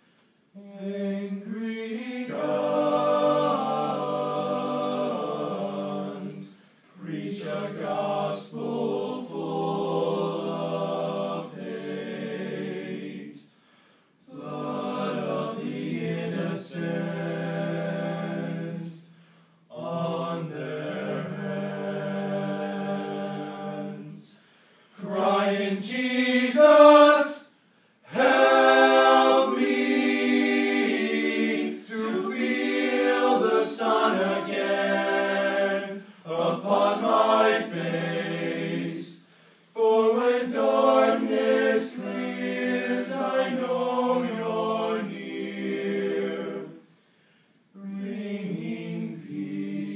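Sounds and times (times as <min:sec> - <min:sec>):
male choir singing in harmony: 0:00.6 - 0:13.5, 0:14.3 - 0:24.4, 0:25.0 - 0:46.9, 0:47.8 - 0:49.9.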